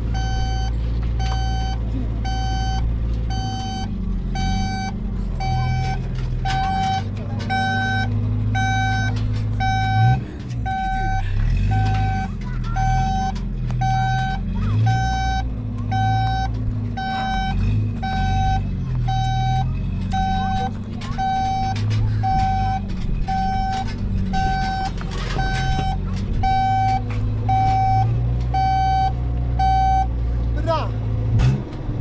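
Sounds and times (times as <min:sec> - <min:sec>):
diesel engine: 0:00.0 - 0:32.0
reversing alarm beeping: 0:00.1 - 0:30.2.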